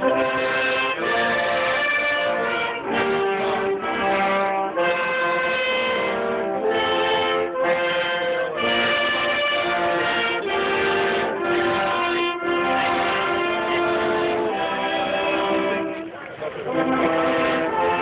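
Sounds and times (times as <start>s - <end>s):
brass band playing slow tune: 0.0s - 18.0s.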